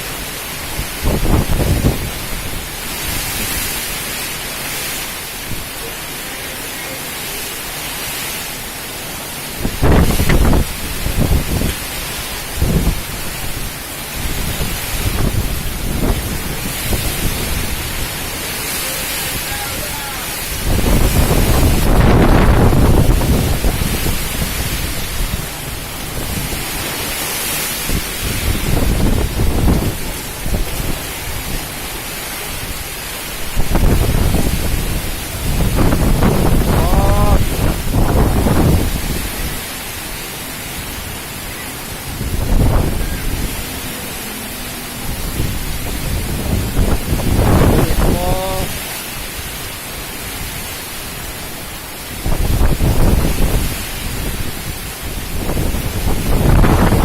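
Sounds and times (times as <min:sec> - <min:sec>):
wind buffeting microphone: 0:00.0 - 0:06.2, 0:07.9 - 0:57.0
heavy rain: 0:00.0 - 0:57.0.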